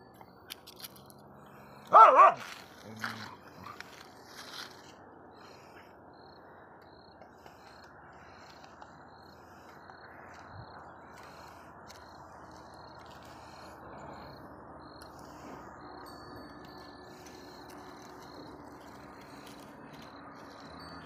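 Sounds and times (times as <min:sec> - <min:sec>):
insect chirping: 0:03.2 - 0:21.0.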